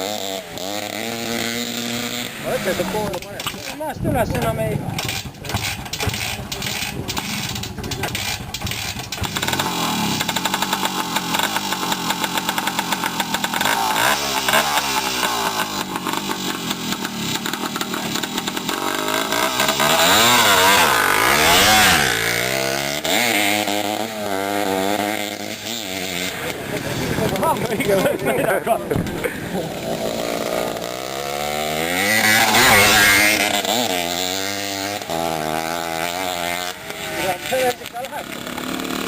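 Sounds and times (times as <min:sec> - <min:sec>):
motocross motorcycle engine revving: 0:00.0 - 0:39.0.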